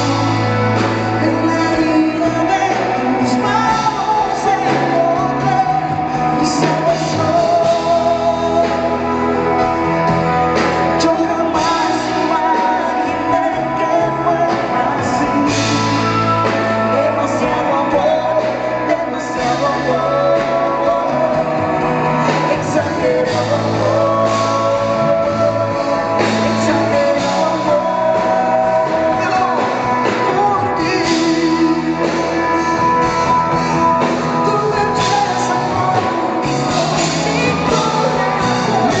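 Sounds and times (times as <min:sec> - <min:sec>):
drums: 0:00.0 - 0:39.0
keyboards: 0:00.0 - 0:39.0
man singing: 0:00.0 - 0:39.0
woman singing: 0:00.0 - 0:39.0.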